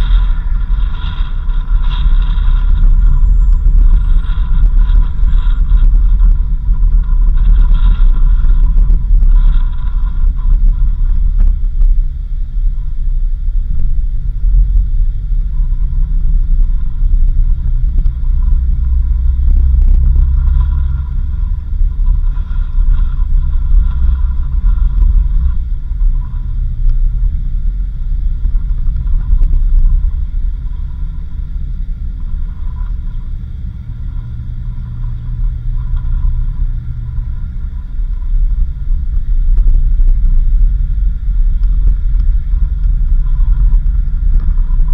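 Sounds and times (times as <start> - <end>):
road noise: 0.0 - 44.9
vehicle engine rumble: 0.0 - 44.9.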